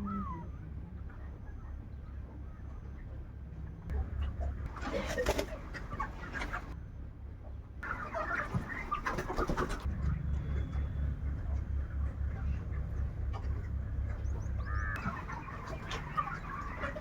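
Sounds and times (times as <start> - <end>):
chickens clucking: 0.0 - 17.0
low pulsing machine hum: 0.0 - 17.0.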